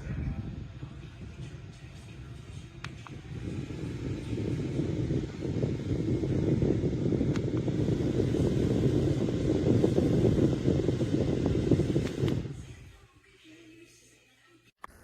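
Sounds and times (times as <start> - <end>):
fan wind buffeting microphone: 0.0 - 13.0.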